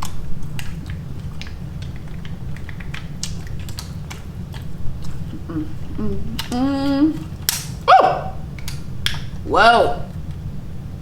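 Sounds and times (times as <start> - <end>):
eating clicks and smacks: 0.0 - 9.5.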